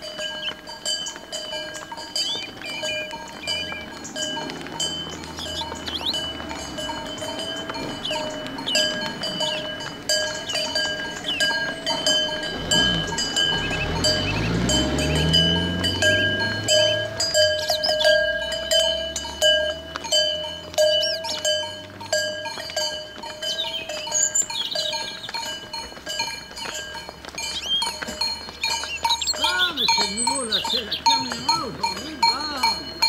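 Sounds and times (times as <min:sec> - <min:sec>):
birds chirping: 0:00.0 - 0:33.0
cowbells clanking: 0:00.0 - 0:33.0.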